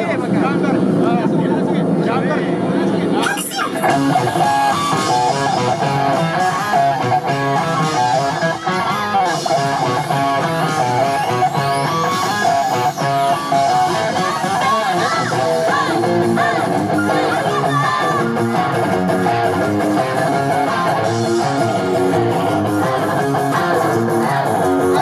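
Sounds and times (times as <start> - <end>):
plucked guitar music: 3.2 - 25.0.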